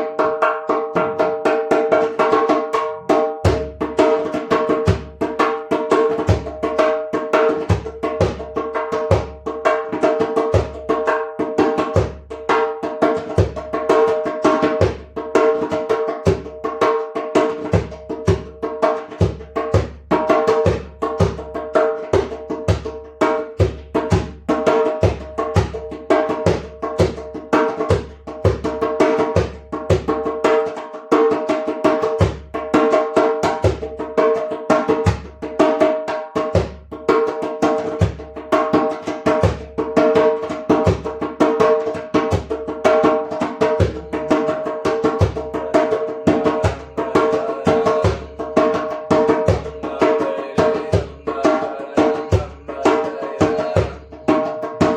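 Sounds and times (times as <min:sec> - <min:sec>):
hand drum: 0:00.0 - 0:54.9.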